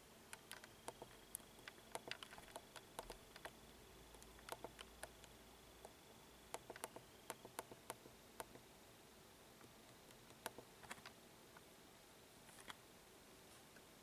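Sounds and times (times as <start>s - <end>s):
faint steady high whine: 0.0s - 14.0s.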